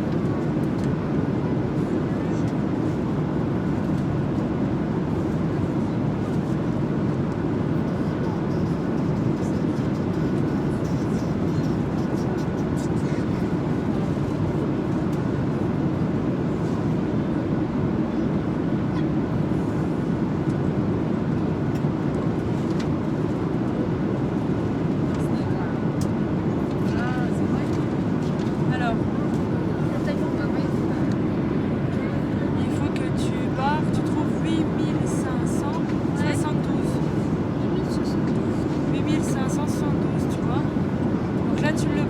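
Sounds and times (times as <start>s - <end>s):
airplane cabin engine rush: 0.0s - 42.0s.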